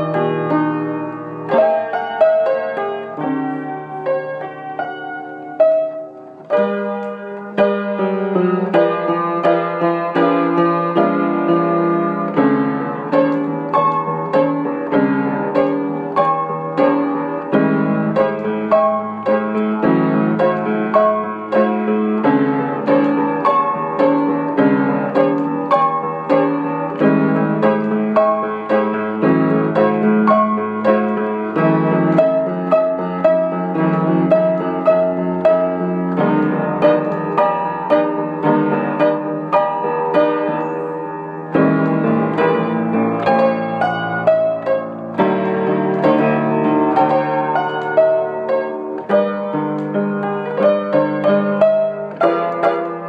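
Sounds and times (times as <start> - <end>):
solo piano playing: 0.0 - 53.0.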